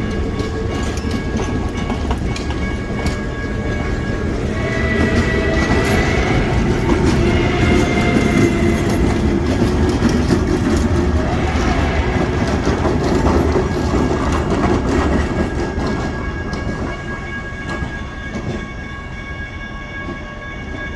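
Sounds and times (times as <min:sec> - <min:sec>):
train wheels clattering on track: 0:00.0 - 0:20.9.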